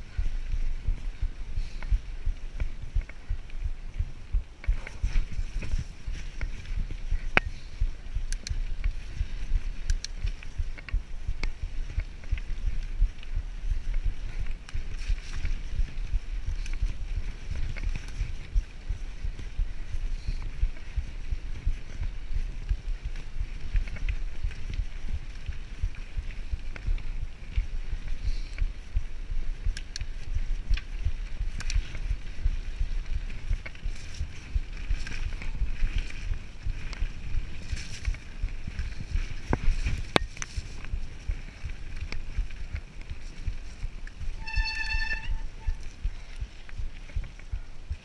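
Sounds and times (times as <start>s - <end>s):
wind buffeting microphone: 0.0s - 48.0s
bike rattling clicks and knocks: 0.2s - 48.0s.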